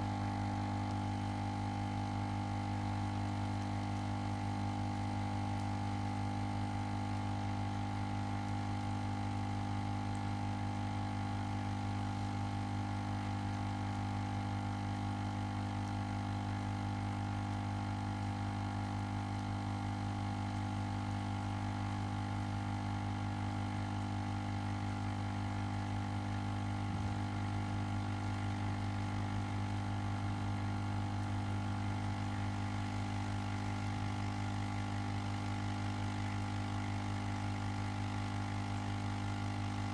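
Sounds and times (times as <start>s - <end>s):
ozone generator electrical hum: 0.0s - 39.9s.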